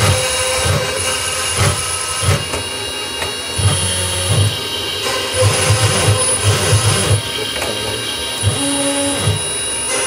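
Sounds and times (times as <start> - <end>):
router spindle whine: 0.0 - 10.0.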